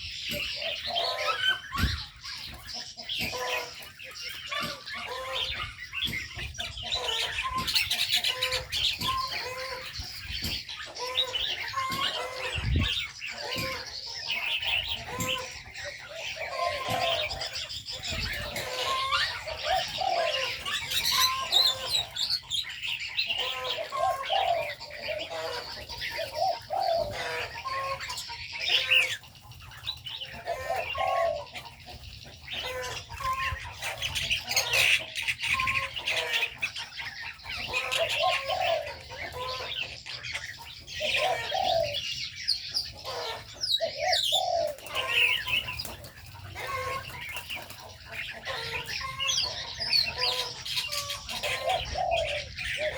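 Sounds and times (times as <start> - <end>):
doves cooing: 0.0 - 52.9
small birds chirping: 0.0 - 52.9.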